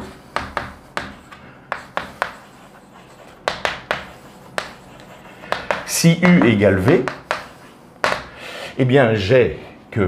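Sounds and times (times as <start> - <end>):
chalk tapping on blackboard: 0.0 - 8.3.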